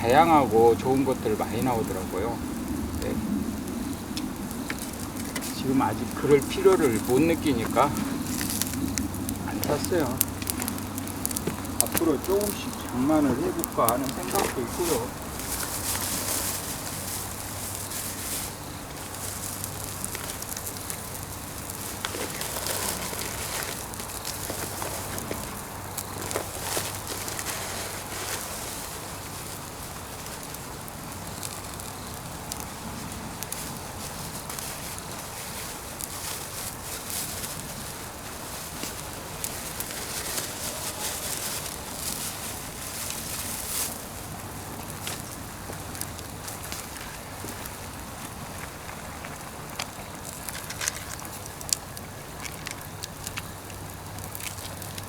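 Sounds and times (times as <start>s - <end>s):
firewood crackling and popping: 0.0s - 55.0s
steady fire hiss: 0.0s - 55.0s.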